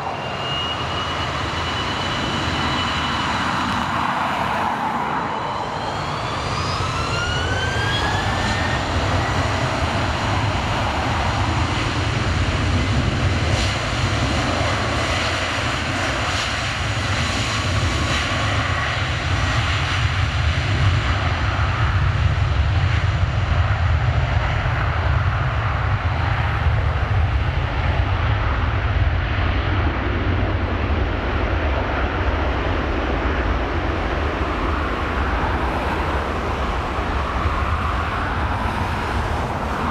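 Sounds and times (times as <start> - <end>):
airliner rumbling down runway: 0.0 - 39.9
jet engines whining: 0.0 - 39.9.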